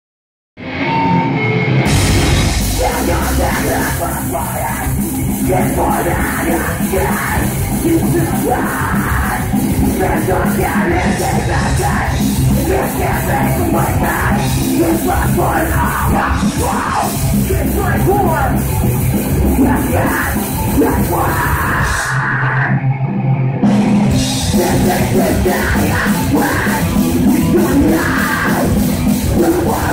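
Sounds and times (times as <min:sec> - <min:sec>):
live heavy metal band: 0:00.6 - 0:29.9
harsh shouted vocals: 0:02.0 - 0:18.7, 0:19.3 - 0:22.8, 0:24.4 - 0:29.9.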